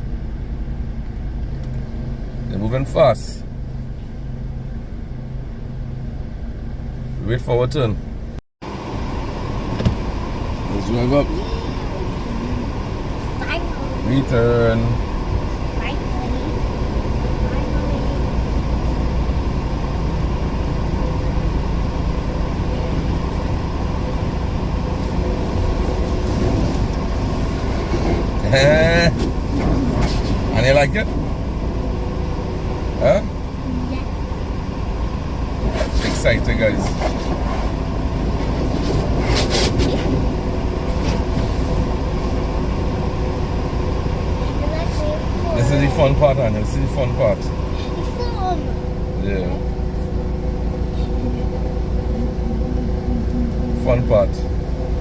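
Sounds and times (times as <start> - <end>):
car wash rumbling and rushing: 0.0 - 55.0.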